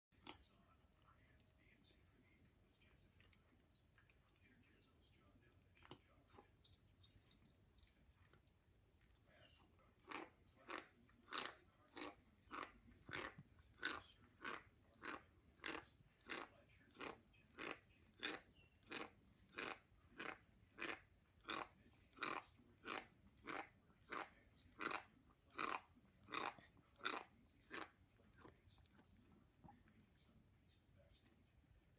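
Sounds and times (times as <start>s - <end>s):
cat crunching dry kibble: 0.2s - 30.4s.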